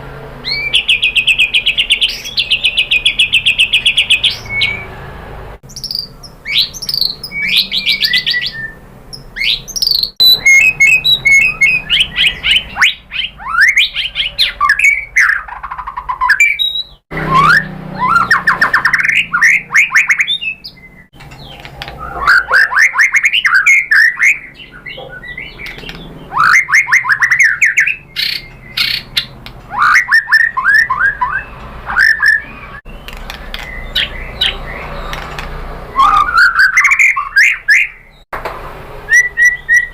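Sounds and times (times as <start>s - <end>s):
bird singing whistled phrases: 0.4s - 4.9s, 5.7s - 35.2s, 35.9s - 38.2s, 39.1s - 39.9s.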